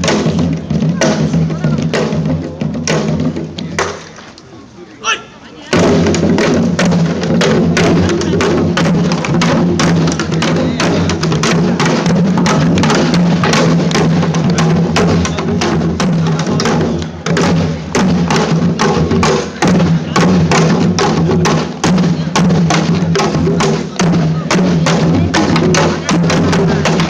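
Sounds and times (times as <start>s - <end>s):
percussion ensemble fast drumming: 0.0s - 4.1s, 5.7s - 27.0s.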